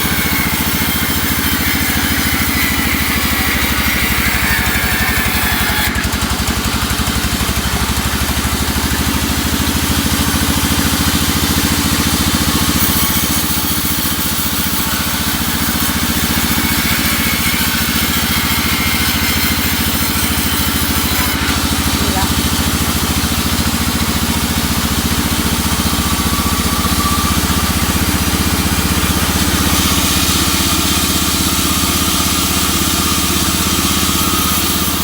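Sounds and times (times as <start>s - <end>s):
sawmill engine running: 0.0s - 35.0s.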